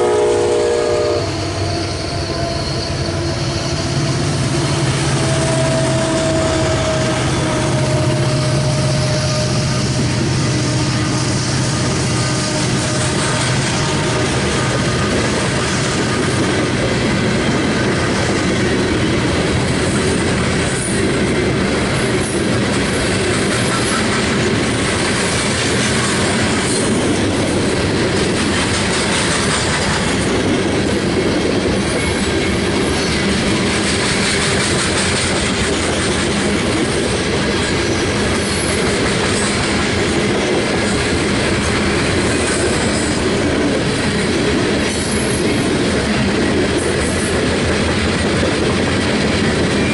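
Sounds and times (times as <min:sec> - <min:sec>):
freight train cars rolling past: 0:00.0 - 0:49.9.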